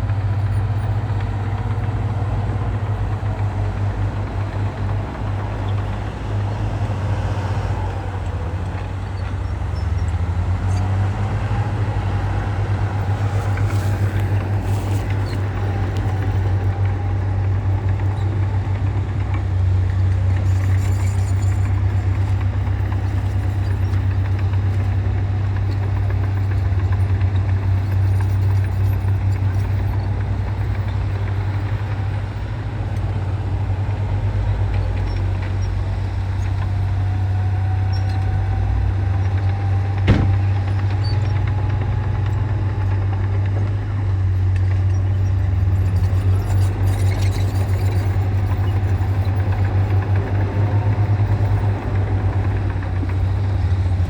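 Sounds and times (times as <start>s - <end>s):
diesel machinery engine hum: 0.0s - 54.0s.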